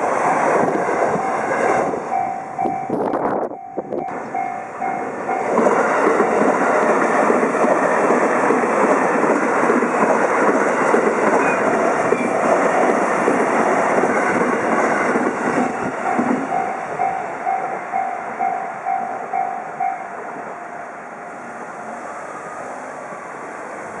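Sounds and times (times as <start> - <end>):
train wheels clattering: 0.0 - 20.3
crossing warning bell dinging: 0.0 - 24.0.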